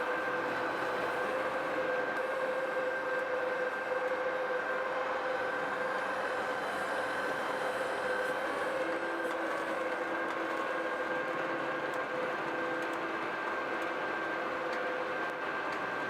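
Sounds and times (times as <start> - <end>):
car baler machine noise: 0.0 - 16.0
hydraulic whine: 0.0 - 16.0.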